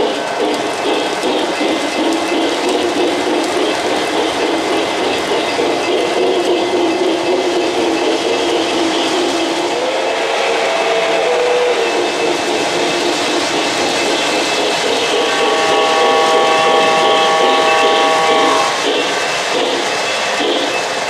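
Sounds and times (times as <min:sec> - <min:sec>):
model train wheels rolling: 0:00.0 - 0:21.0.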